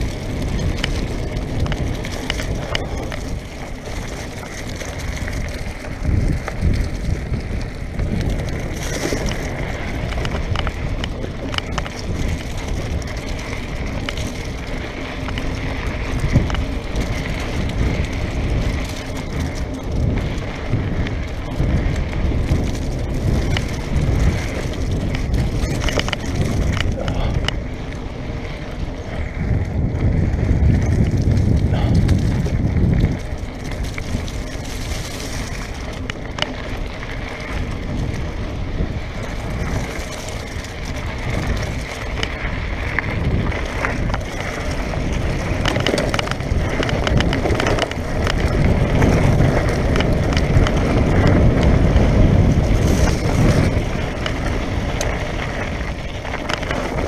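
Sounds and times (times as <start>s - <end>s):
bike clicks and rattles: 0.0s - 57.0s
bike tyres on loose stones: 0.0s - 57.0s
wind rumble on microphone: 0.0s - 57.0s.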